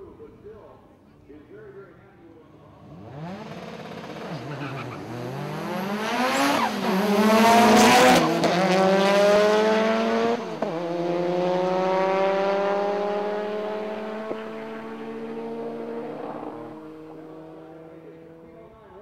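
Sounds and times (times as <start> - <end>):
drag racing cars accelerating: 2.4 - 19.0.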